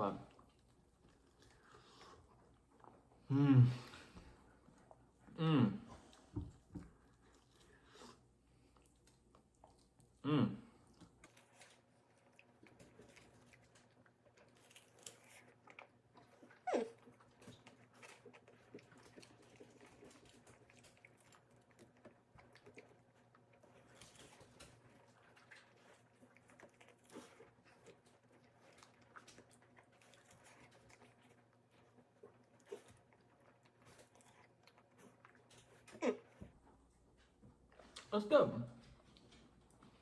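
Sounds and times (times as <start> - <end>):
chewing with clicks and crunches: 0.1 - 3.3, 6.1 - 10.2, 10.8 - 38.1.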